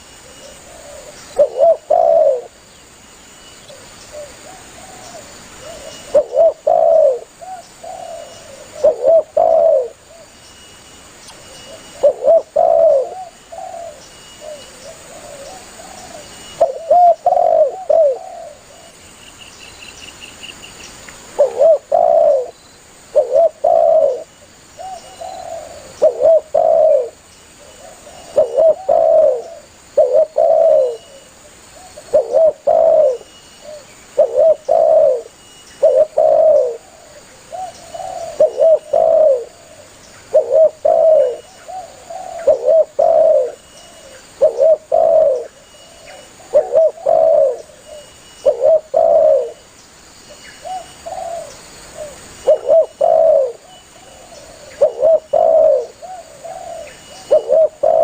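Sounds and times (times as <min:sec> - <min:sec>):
dove cooing: 0:00.0 - 0:02.6, 0:03.6 - 0:10.3, 0:11.5 - 0:19.0, 0:21.3 - 0:49.6, 0:50.6 - 0:58.0.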